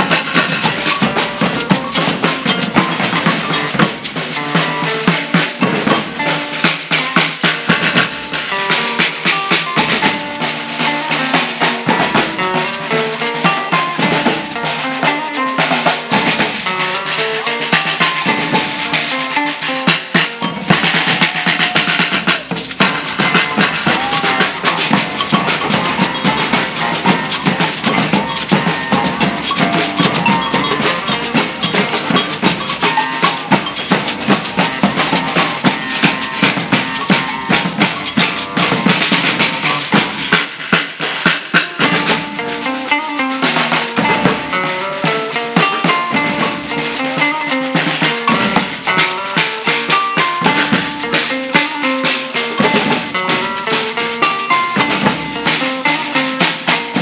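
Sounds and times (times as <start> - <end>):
bass drums: 0.0 - 57.0
snare drums struck with sticks: 0.0 - 57.0
metal tube shaker: 8.2 - 40.4, 41.8 - 57.0.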